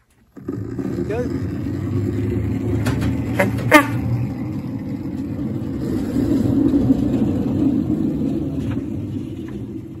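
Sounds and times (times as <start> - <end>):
miniature locomotive rumbling: 0.0 - 10.0.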